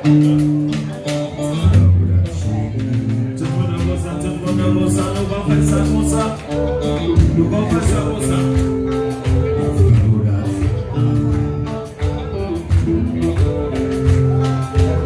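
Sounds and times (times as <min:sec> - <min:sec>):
congas: 0:00.0 - 0:15.0
drum kit: 0:00.0 - 0:15.0
electric guitars: 0:00.0 - 0:15.0
keyboard: 0:00.0 - 0:15.0.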